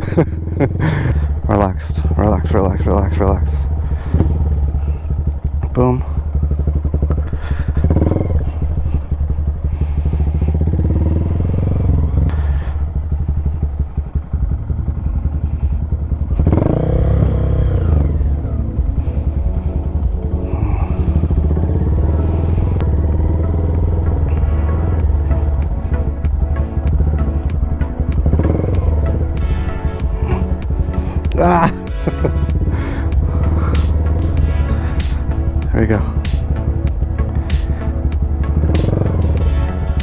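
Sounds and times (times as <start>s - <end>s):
motorcycle engine at low speed: 0.0s - 40.0s.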